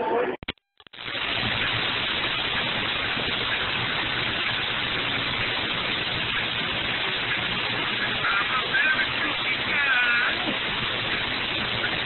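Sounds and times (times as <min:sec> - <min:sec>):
loud static hiss: 0:00.3 - 0:12.0.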